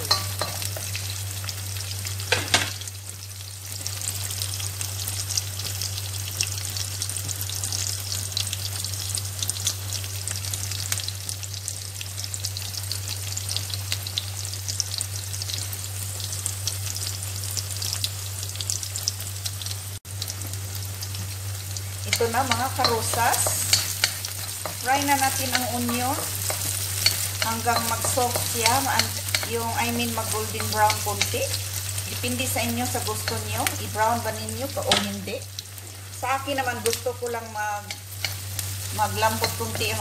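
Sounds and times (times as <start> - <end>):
onions sizzling in a wok: 0.0 - 40.0.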